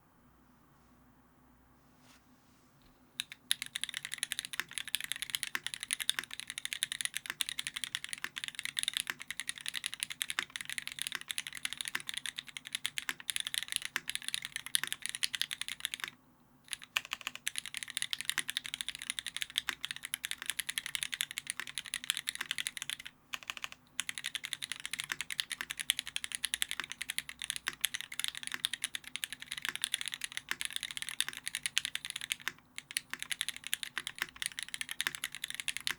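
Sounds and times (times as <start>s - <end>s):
fast typing on mechanical keyboard: 3.2s - 35.9s.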